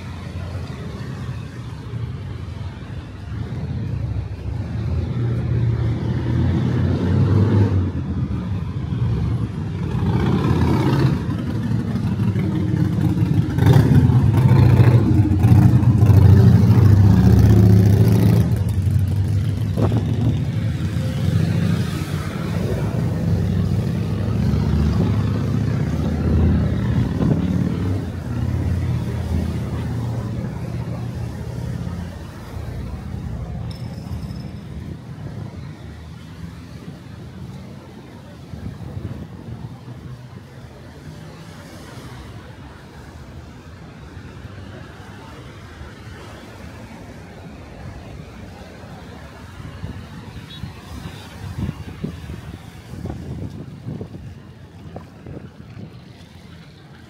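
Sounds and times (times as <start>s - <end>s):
vehicle engines accelerating: 0.0s - 50.0s.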